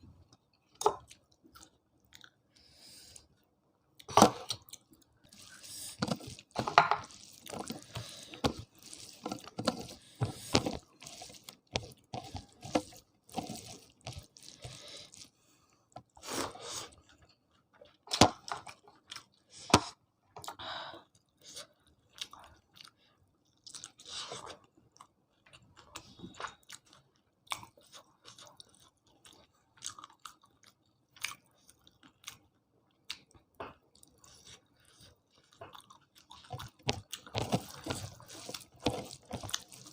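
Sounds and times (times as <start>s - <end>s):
person chewing food: 0.2s - 20.6s, 21.3s - 39.9s.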